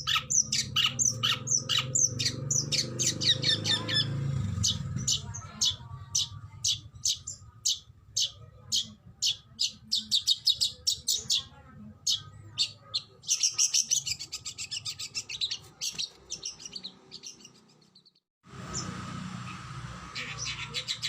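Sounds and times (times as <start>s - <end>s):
magpie-robin singing: 0.0s - 21.0s.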